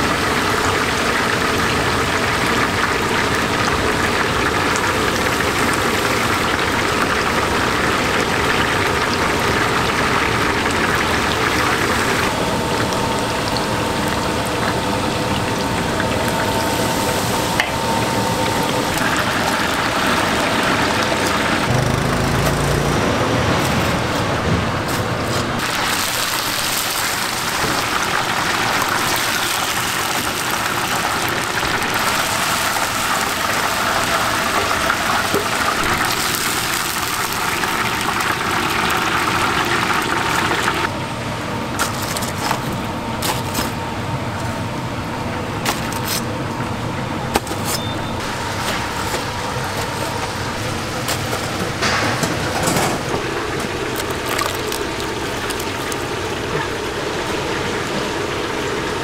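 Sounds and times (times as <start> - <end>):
hot oil sizzling and crackling: 0.0 - 23.9, 25.6 - 40.9, 48.2 - 59.0.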